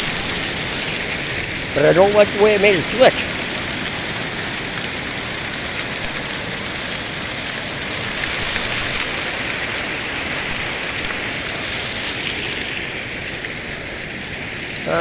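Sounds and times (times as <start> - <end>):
waterfall crashing: 0.0 - 15.0.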